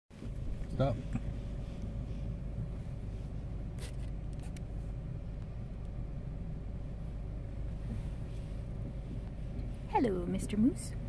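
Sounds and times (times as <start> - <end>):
car road and engine noise: 0.1 - 11.0.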